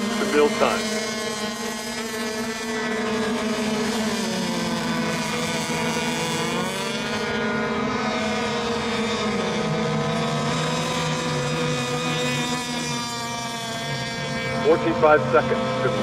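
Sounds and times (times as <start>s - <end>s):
small two-stroke boat engines: 0.0s - 16.0s.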